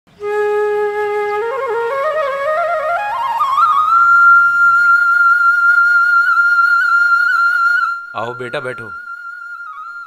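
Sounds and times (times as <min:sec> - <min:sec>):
solo flute melody: 0:00.1 - 0:10.0.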